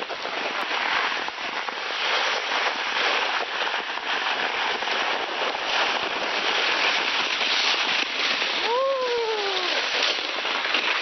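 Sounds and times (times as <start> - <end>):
sled hissing on snow: 0.0 - 11.0.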